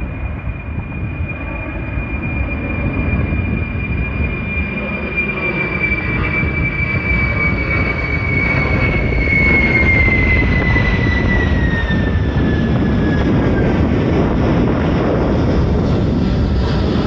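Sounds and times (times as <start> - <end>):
military plane passing: 0.0 - 17.0.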